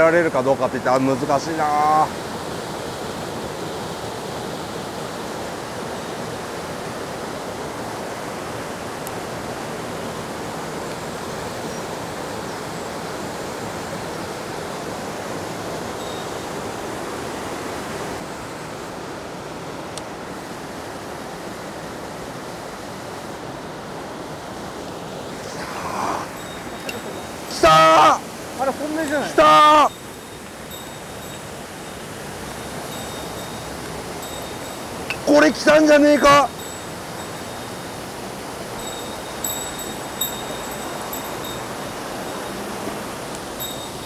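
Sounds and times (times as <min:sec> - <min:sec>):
fast-flowing stream water rushing: 0:00.0 - 0:44.0.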